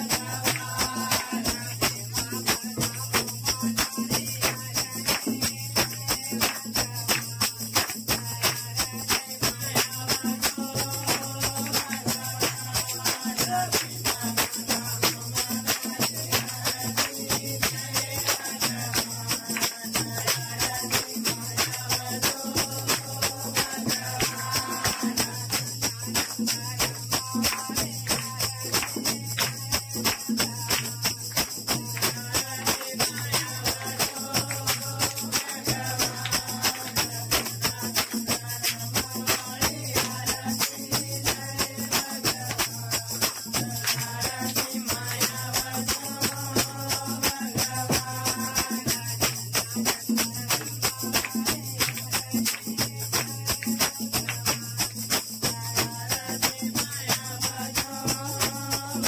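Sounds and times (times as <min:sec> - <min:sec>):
jingling percussion beat: 0:00.0 - 0:59.0.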